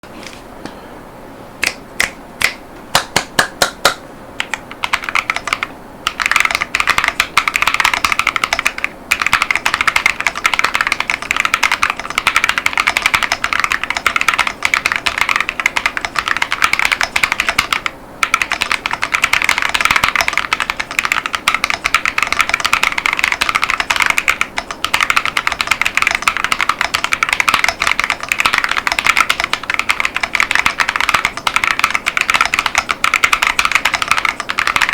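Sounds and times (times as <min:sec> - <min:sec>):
mechanical keyboard typing: 0:04.4 - 0:34.9.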